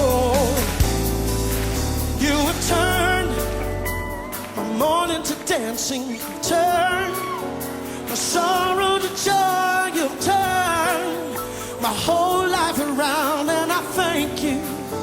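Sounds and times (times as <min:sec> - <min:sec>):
person singing with vibrato: 0:00.0 - 0:01.3, 0:01.9 - 0:15.0
held accompaniment chords: 0:00.0 - 0:15.0.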